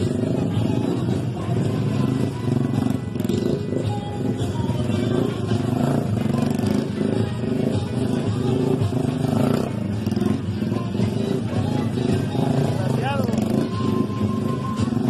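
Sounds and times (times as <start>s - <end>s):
background music: 0.0s - 15.0s
small motorcycle engine revving: 0.0s - 15.0s.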